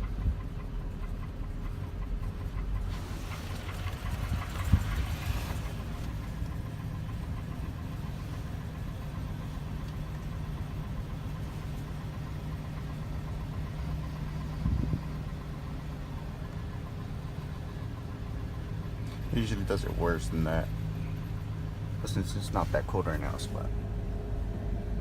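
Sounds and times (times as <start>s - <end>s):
engine idling roughly: 0.0s - 25.0s.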